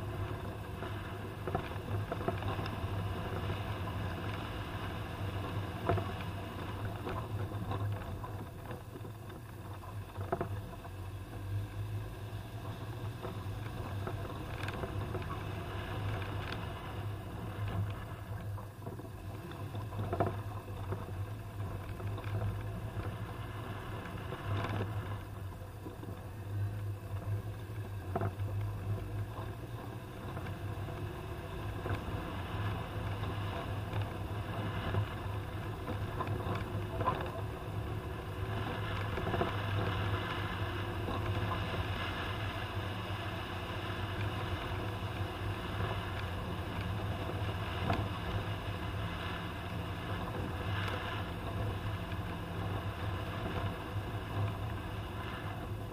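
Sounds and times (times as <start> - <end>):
car engine droning: 0.0 - 55.9
road noise: 0.0 - 55.9.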